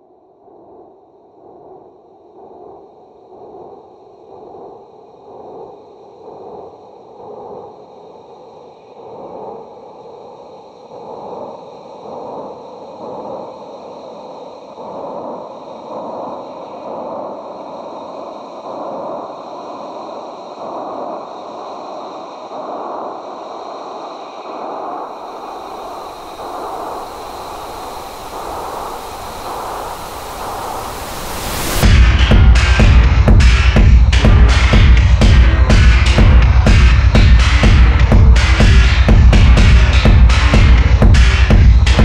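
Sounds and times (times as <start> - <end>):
pulsing synthesizer noise swell: 0.0 - 42.0.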